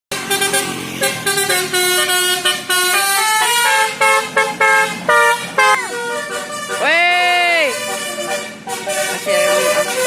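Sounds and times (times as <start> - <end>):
multi-tone bus horn tune: 0.1 - 10.0.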